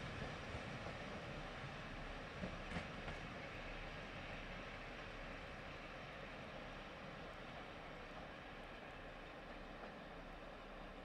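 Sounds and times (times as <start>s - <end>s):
faint train rumble: 0.0s - 11.0s.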